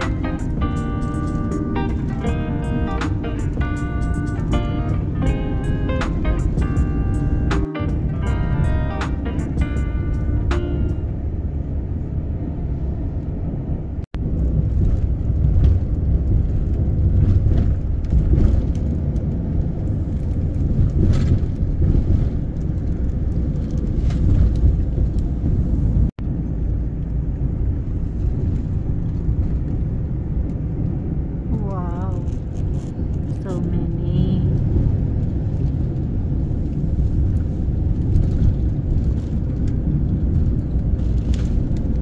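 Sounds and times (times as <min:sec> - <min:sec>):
road and engine rumble: 0:00.0 - 0:42.0.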